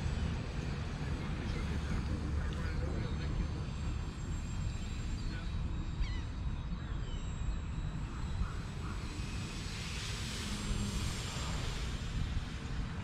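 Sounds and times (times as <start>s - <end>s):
model airplane motor buzzing: 0.0s - 13.0s.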